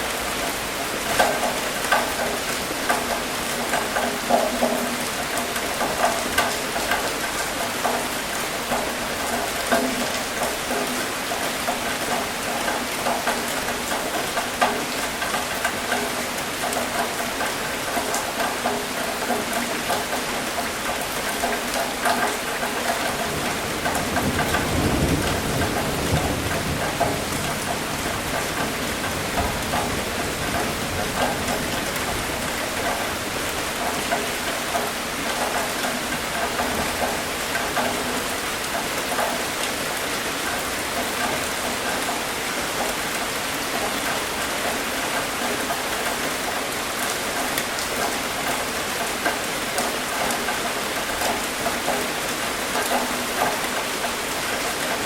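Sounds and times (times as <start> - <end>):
raindrops ticking: 0.0 - 55.0.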